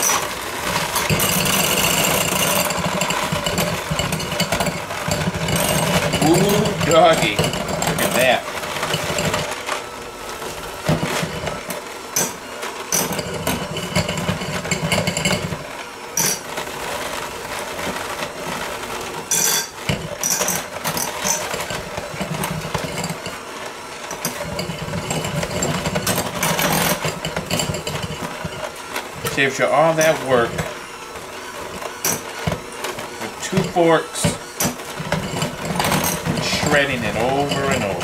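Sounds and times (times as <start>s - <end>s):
electric hand mixer whirring: 0.0s - 38.0s.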